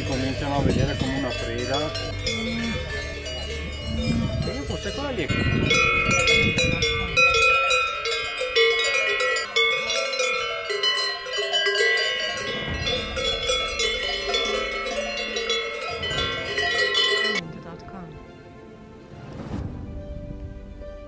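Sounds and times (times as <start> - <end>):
cowbells clanking: 0.0 - 17.4.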